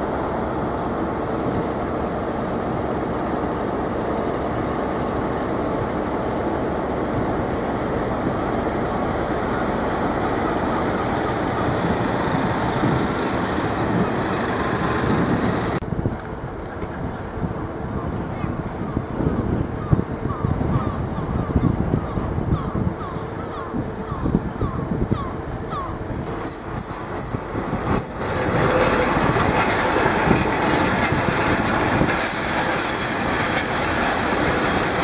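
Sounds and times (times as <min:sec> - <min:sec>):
train engine and wheels rumbling: 0:00.0 - 0:35.0.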